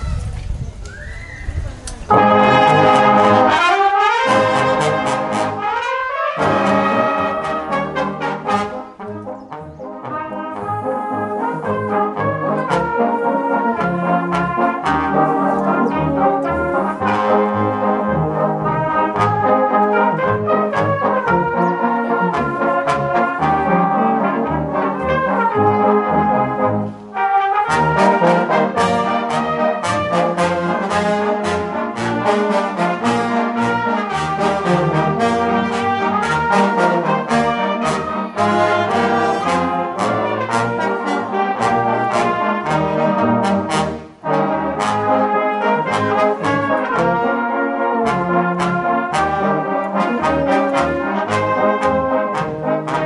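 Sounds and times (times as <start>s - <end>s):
brass band playing: 2.1s - 53.0s.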